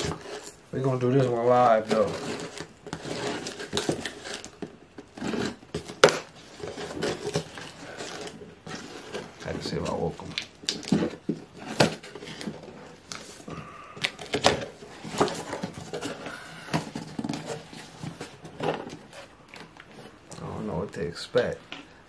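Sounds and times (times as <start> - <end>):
cardboard box handled: 1.2 - 20.2.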